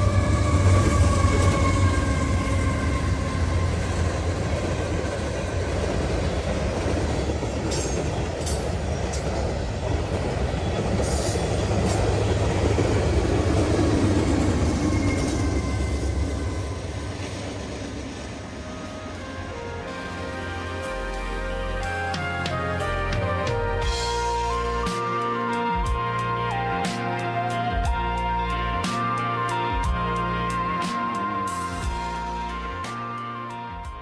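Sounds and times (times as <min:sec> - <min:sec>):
freight train rumbling past: 0:00.0 - 0:34.0.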